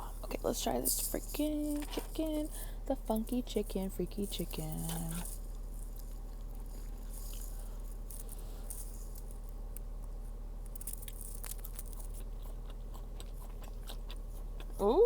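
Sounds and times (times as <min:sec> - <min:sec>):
chewing crunchy food: 0:00.0 - 0:15.0
steady low hum: 0:00.0 - 0:15.0.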